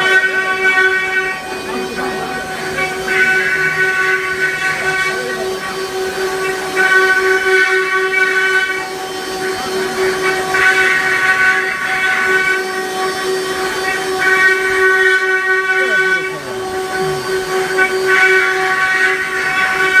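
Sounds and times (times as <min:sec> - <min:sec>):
bits cutting wood: 0:00.0 - 0:20.0
router spindles whining: 0:00.0 - 0:20.0.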